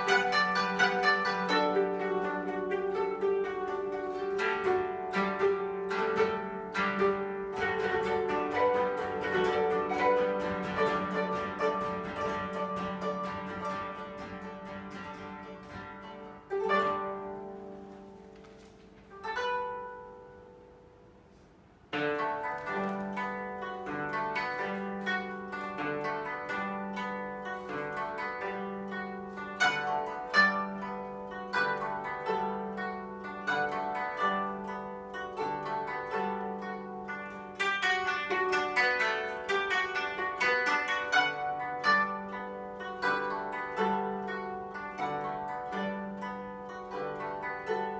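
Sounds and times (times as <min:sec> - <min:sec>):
koto ensemble plucking: 0:00.0 - 0:47.9.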